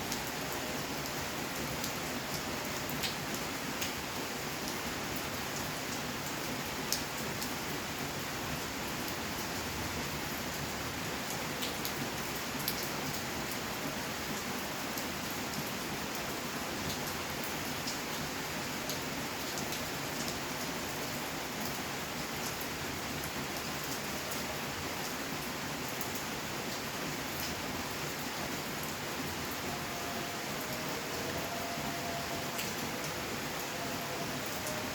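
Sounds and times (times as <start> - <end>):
raindrops ticking on surfaces: 0.0 - 34.9
steady rainfall: 0.0 - 34.9.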